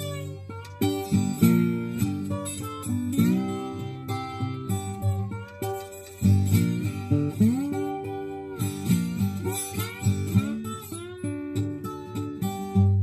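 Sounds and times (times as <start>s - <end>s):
slide acoustic guitar blues: 0.0s - 13.0s.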